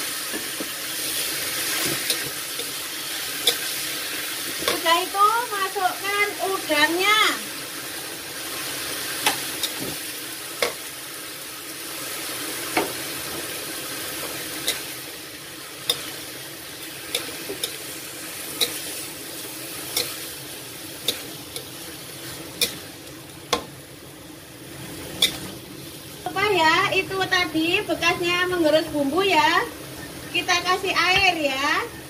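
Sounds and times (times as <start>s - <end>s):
food sizzling in a pan: 0.0s - 32.0s.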